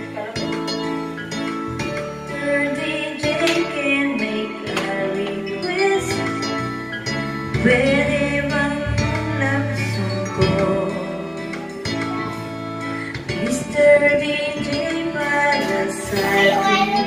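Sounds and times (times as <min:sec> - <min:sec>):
woman singing into microphone: 0:00.0 - 0:01.3, 0:02.2 - 0:17.0
backing music with guitar: 0:00.0 - 0:17.0.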